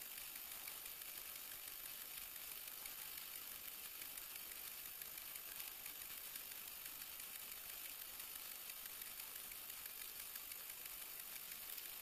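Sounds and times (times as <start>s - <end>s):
small ticks: 0.0s - 12.0s.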